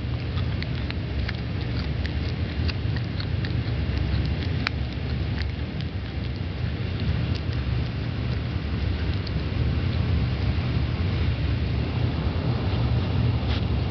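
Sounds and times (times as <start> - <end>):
cat crunching bones: 0.0 - 11.7
steady low rumble: 0.0 - 13.9.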